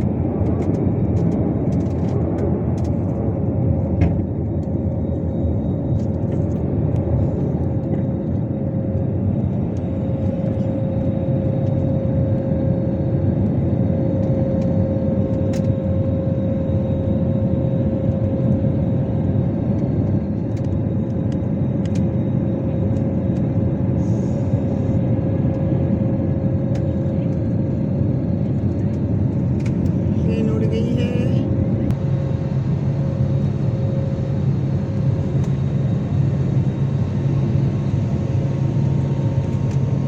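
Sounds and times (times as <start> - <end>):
airliner engines rumbling: 0.0 - 40.0.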